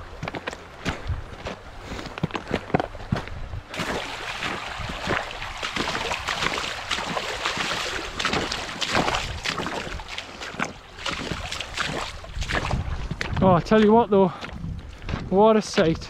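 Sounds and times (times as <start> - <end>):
boots splashing through stream: 0.0 - 15.9.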